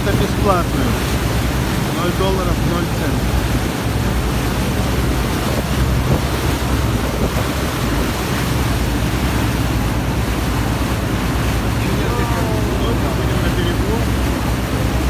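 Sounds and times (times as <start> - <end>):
boat engine running: 0.0 - 15.0
water churning: 0.0 - 15.0
wind rushing on microphone: 0.0 - 15.0.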